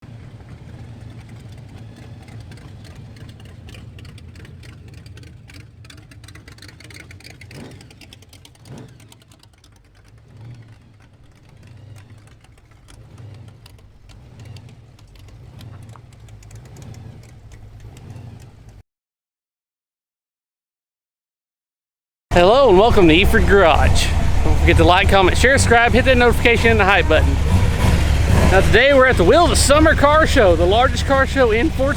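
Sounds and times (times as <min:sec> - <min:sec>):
car engine revving: 0:00.0 - 0:18.8, 0:22.3 - 0:31.9.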